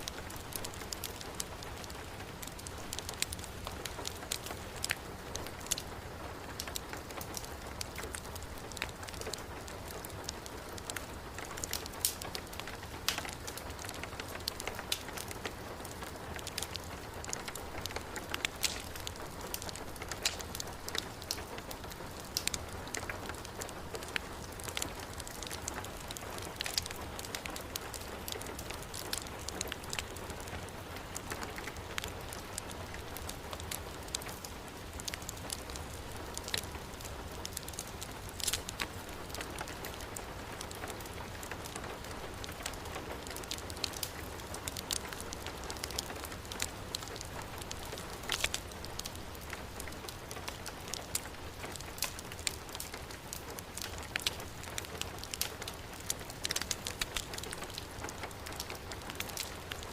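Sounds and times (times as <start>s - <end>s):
heavy rainfall: 0.0s - 59.9s
wood fire crackling and popping: 0.0s - 59.9s.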